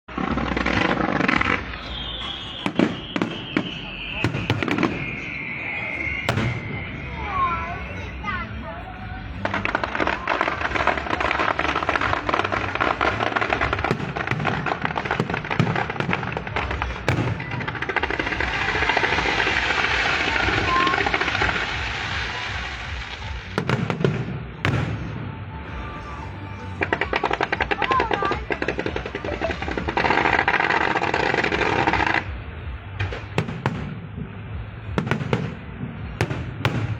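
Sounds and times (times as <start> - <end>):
firework bangs and thumps: 0.1 - 36.9
fireworks crackling: 0.1 - 36.9.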